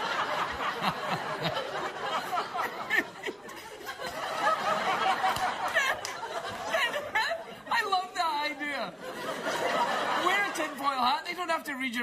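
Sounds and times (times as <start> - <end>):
studio audience laughing: 0.0 - 11.2.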